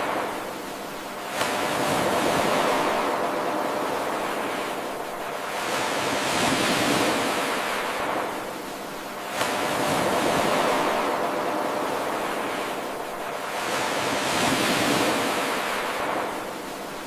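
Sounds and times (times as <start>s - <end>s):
ocean surf waves: 0.0s - 17.0s.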